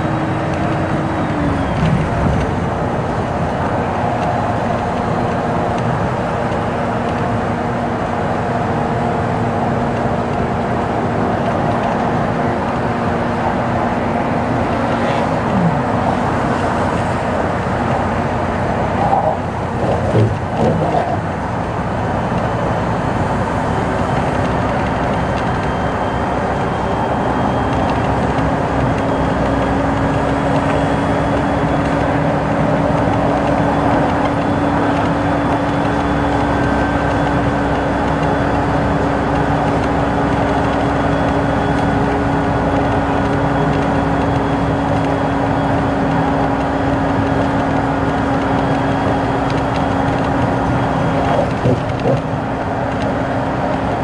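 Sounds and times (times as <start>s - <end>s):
tyre and road noise: 0.0s - 54.0s.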